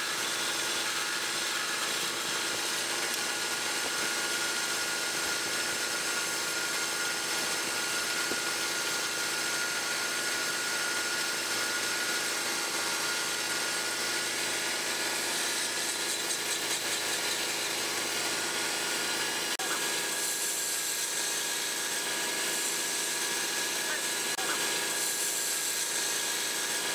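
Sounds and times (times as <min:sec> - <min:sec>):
sandpaper hissing on spinning wood: 0:00.0 - 0:26.9
wood lathe motor hum: 0:00.0 - 0:26.9.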